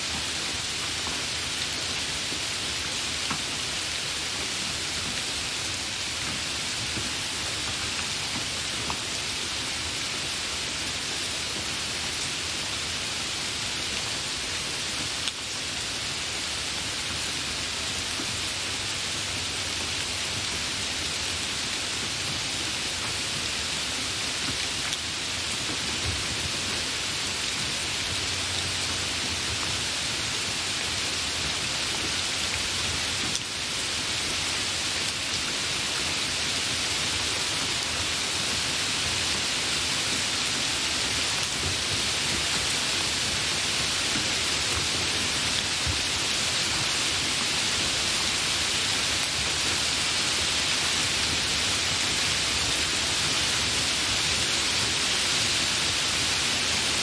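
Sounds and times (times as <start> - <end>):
hard rain hissing: 0.0 - 57.0.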